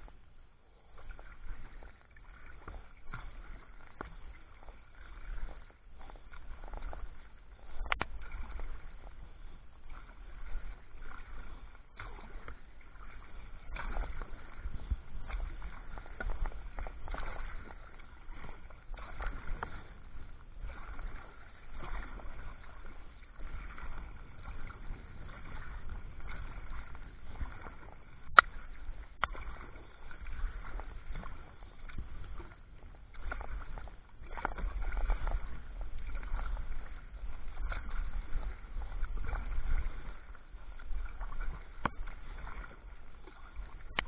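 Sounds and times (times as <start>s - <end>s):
paddle dipping and splashing: 0.0s - 44.0s.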